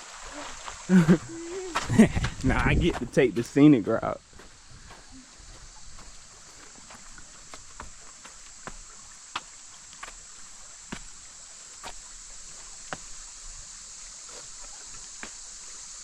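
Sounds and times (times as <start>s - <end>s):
steady high hiss: 0.0s - 16.0s
footsteps on rocky trail: 0.3s - 13.3s.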